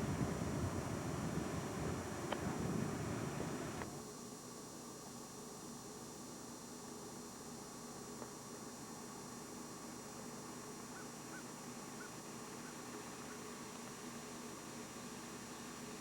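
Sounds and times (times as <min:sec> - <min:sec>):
camcorder hiss and hum: 0:00.0 - 0:16.0.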